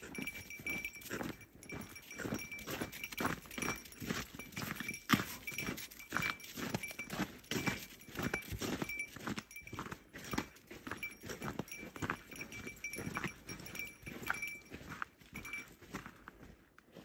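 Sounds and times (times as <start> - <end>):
footsteps on snow: 0.0 - 17.0
faint metallic ring: 0.1 - 16.1.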